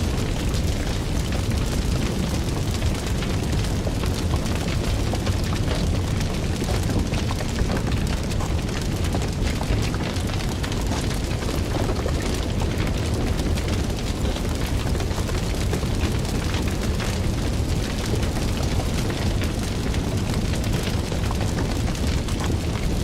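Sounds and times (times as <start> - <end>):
fire crackles and pops: 0.0 - 23.0
fire low rumble: 0.0 - 23.0.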